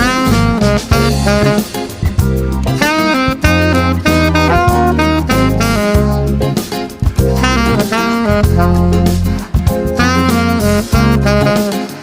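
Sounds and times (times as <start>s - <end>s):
swing jazz music: 0.0s - 12.0s.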